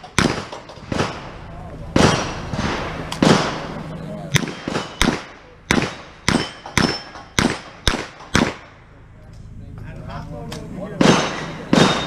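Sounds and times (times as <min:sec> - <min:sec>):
revolver gunshots: 0:00.0 - 0:08.9, 0:10.9 - 0:12.0.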